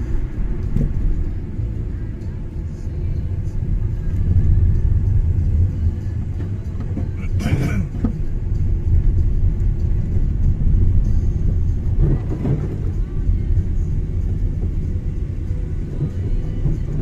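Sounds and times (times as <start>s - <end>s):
car engine rumble: 0.0s - 17.0s.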